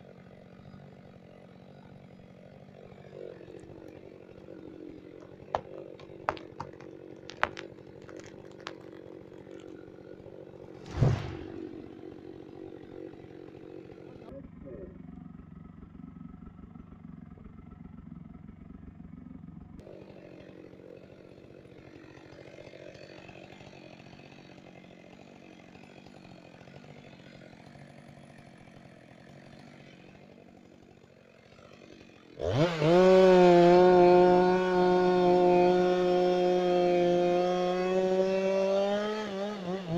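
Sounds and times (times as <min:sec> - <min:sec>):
chainsaw cutting wood: 0:00.0 - 0:14.3, 0:19.1 - 0:39.9
chainsaw idling and revving: 0:00.0 - 0:39.9.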